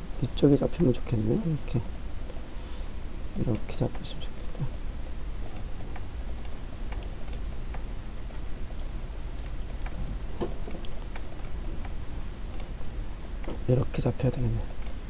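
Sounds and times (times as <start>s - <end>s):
steady low hum: 0.0s - 15.0s
computer mouse clicks: 1.8s - 2.5s, 3.6s - 15.0s.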